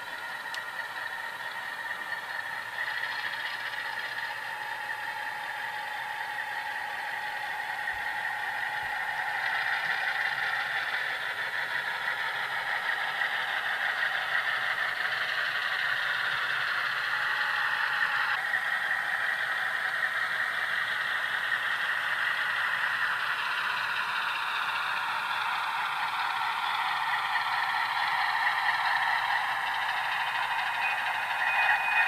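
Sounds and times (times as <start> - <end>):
model locomotive diesel engine sound: 0.0 - 32.0.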